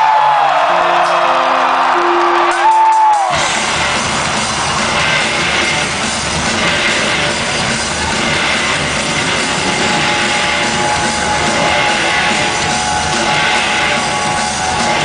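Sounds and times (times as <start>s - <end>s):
crowd noise: 0.0s - 15.0s
rock band playing loud: 0.0s - 15.0s.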